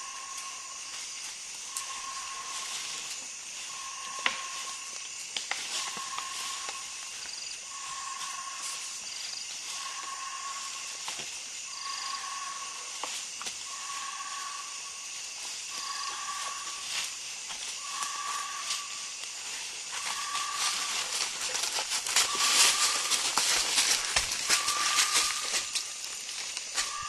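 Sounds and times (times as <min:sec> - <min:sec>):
insects hissing: 0:00.0 - 0:27.0.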